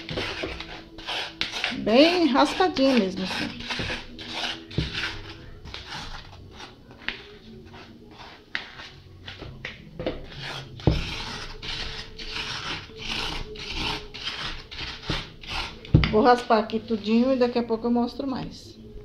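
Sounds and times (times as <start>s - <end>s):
metal spoon scraping ice cream: 0.0s - 17.6s.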